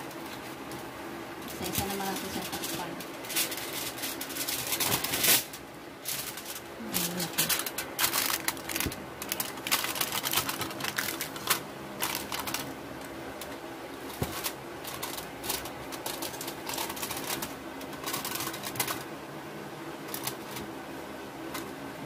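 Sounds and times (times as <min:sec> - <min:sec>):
aluminium foil crinkling: 0:00.0 - 0:19.1, 0:20.0 - 0:20.6.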